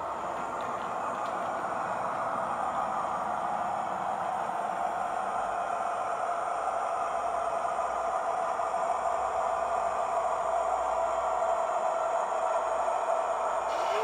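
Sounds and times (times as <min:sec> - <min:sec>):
model train engine drone: 0:00.0 - 0:14.0.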